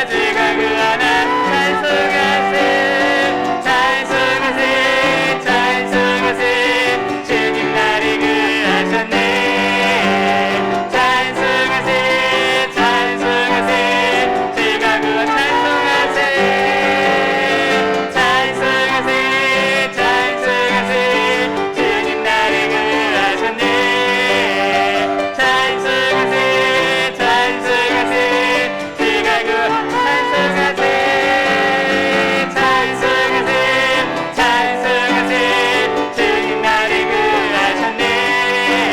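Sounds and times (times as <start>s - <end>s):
group singing worship song: 0.0s - 38.9s
piano accompaniment: 0.0s - 38.9s.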